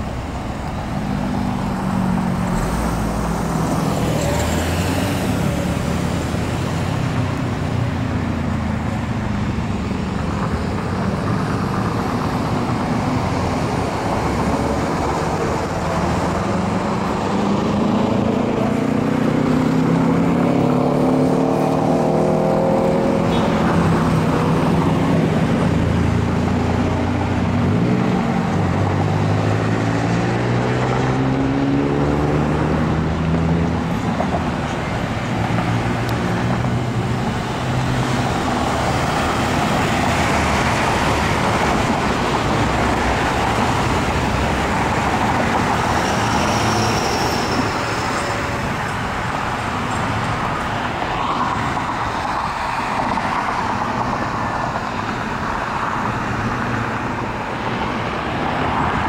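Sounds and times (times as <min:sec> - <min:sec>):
cars passing and accelerating: 0:00.0 - 0:59.0
tyre and road noise: 0:00.0 - 0:59.0.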